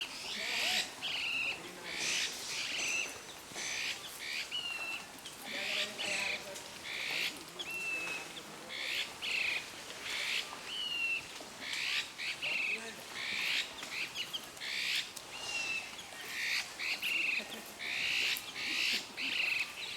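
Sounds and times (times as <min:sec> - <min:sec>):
harsh rasping bird calls: 0:00.1 - 0:19.9.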